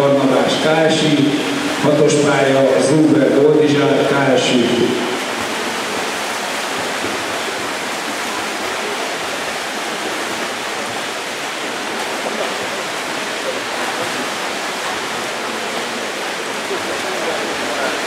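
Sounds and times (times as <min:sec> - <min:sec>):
swimmers splashing in pool: 0:00.0 - 0:18.0.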